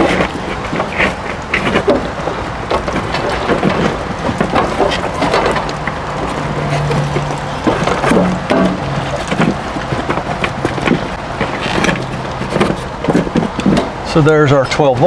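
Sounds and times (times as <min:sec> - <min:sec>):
metal scraping and clatter: 0:00.0 - 0:15.0.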